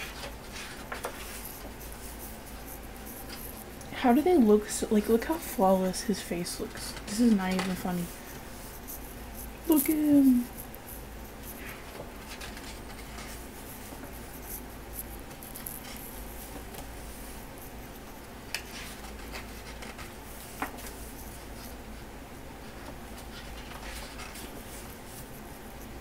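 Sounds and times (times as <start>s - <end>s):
book pages rustling: 0.0s - 5.5s, 6.1s - 17.7s, 18.5s - 21.8s, 22.7s - 25.4s
low background hum: 0.0s - 26.0s.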